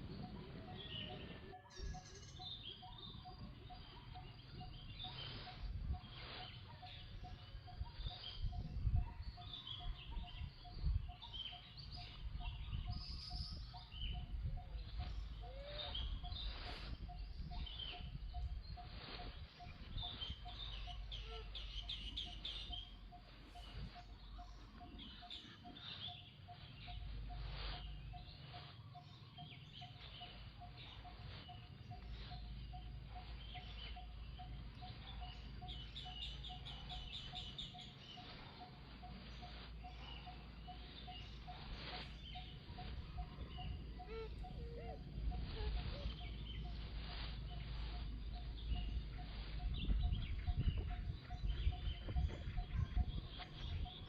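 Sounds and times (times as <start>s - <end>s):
faint pulsing tone: 0.0s - 54.0s
low wind rumble: 0.0s - 54.0s
high chirps and squeaks: 0.2s - 54.0s.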